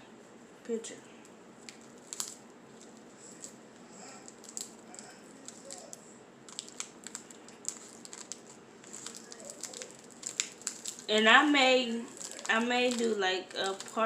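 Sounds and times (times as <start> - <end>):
plastic snack packet crinkling: 1.6 - 14.0.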